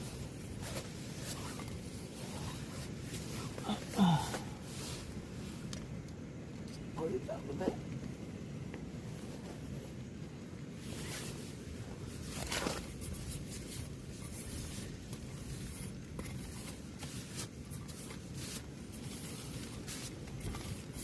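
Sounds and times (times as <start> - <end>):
fabric and gear rustling: 0.0 - 6.3, 8.7 - 21.0
wind rumble against tent: 0.0 - 21.0.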